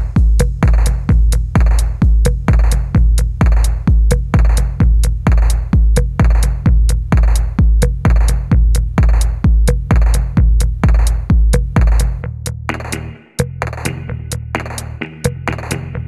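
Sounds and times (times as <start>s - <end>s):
electronic music with drum machine: 0.0s - 16.0s.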